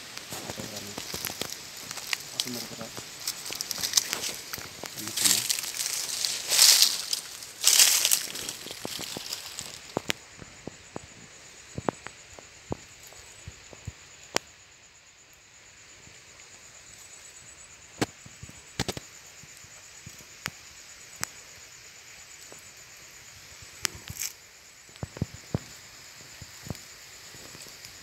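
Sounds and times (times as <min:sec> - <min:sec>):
high insect trill: 0:00.0 - 0:28.0.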